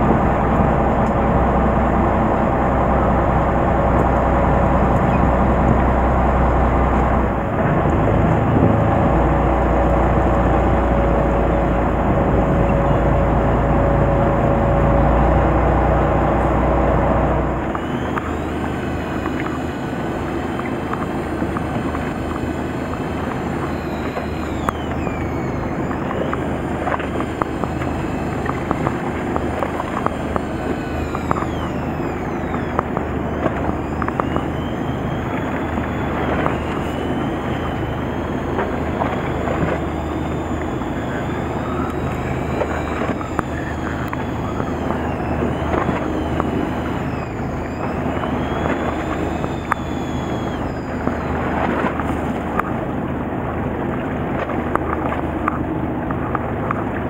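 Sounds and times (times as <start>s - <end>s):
low steady hum: 0.0s - 57.0s
water noise: 0.0s - 57.0s
wind: 0.0s - 57.0s.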